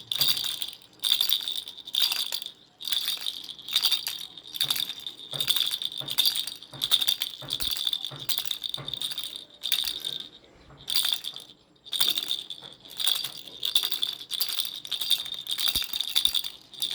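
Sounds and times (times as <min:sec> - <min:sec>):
baby rattle shaking: 0:00.0 - 0:16.9.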